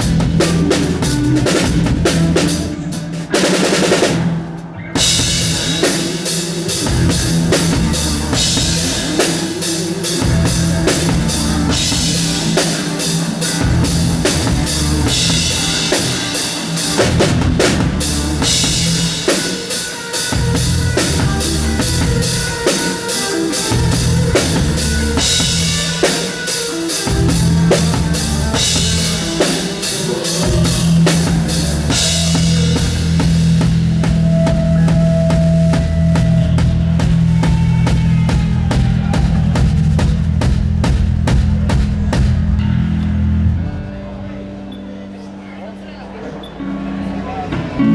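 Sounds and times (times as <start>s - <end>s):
drum kit groove: 0.0s - 42.7s
band music: 0.0s - 47.9s.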